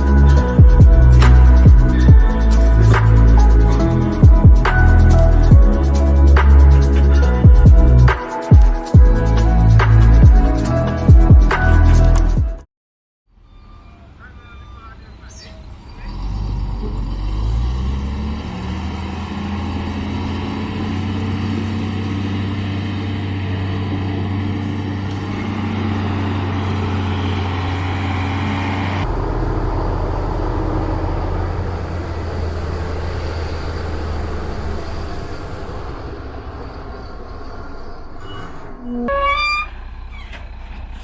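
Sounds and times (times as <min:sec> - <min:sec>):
heavy truck engine revving: 0:00.0 - 0:12.4, 0:13.4 - 0:38.2, 0:39.1 - 0:41.0.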